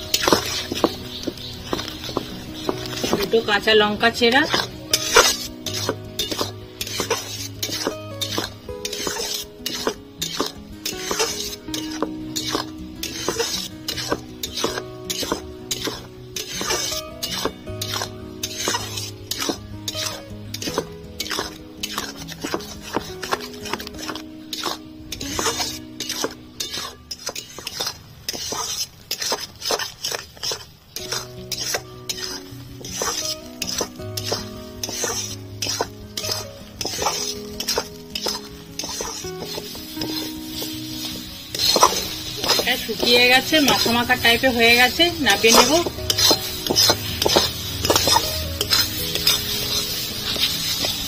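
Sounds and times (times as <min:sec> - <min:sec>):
background music with held notes: 0:00.0 - 0:27.7, 0:30.9 - 0:51.0
faint sizzle: 0:00.0 - 0:51.0
metal spatula scraping wok: 0:00.0 - 0:51.0.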